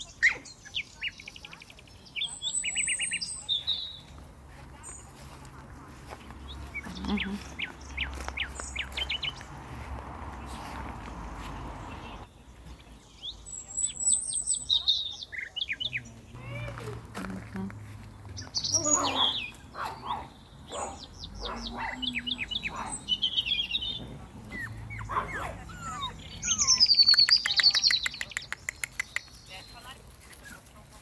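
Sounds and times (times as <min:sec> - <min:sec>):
songbirds singing and chirping: 0:00.0 - 0:31.0.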